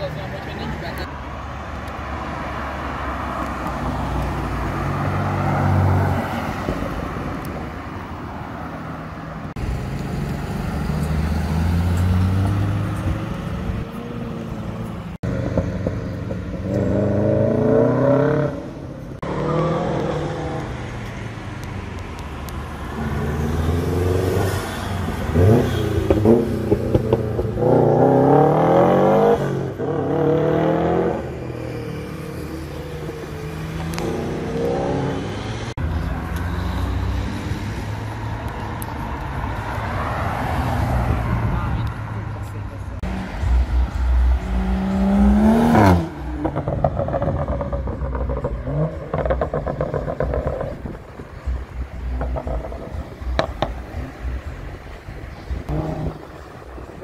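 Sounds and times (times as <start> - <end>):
sports car engines accelerating: 0.0 - 57.0.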